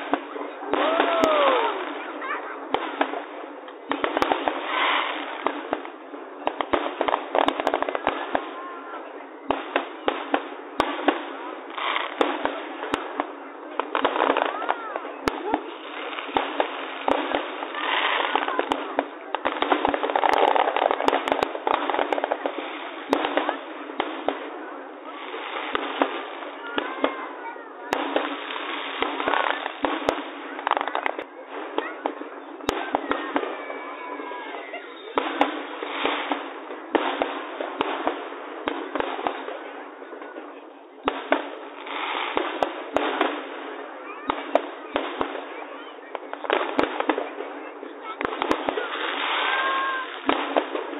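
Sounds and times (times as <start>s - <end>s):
fireworks bangs: 0.0s - 50.9s
fireworks crackling: 0.0s - 50.9s.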